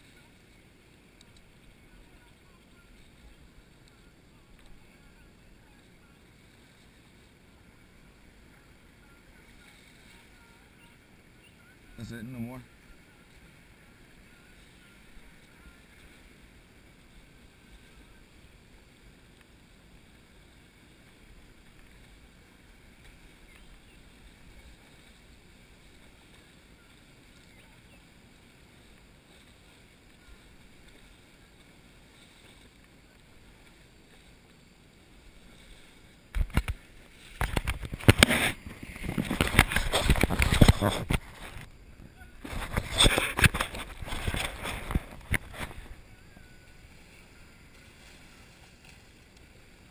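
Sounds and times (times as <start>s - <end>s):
water sloshing: 0.0s - 49.9s.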